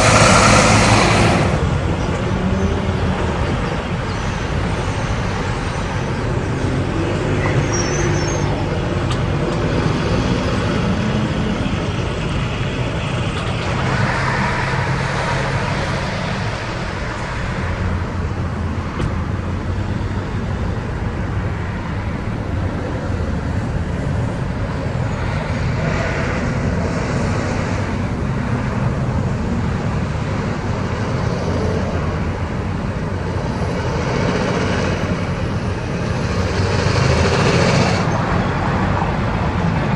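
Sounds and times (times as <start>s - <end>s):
cars passing: 0.0s - 39.9s
semi trucks passing: 0.0s - 39.9s
tyres on road: 0.0s - 39.9s.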